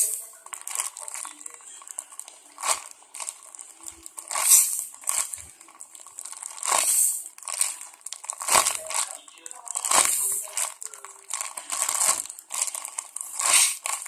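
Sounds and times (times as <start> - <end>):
plastic crinkling and rustling: 0.0 - 14.0.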